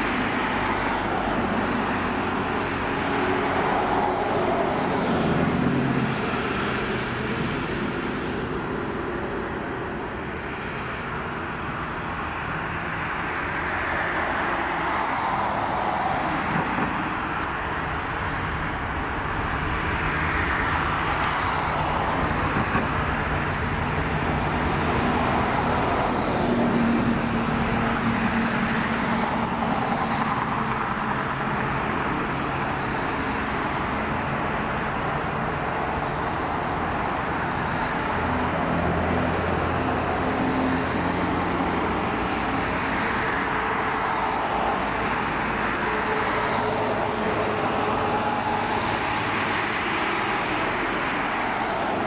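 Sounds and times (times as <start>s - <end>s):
jet engines rumbling: 0.0s - 52.0s
road traffic: 0.0s - 52.0s.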